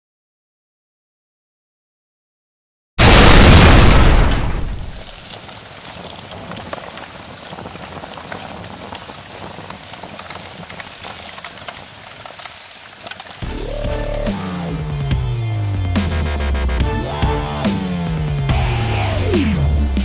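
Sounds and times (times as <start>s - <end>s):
flames crackling and fizzing: 3.0s - 20.0s.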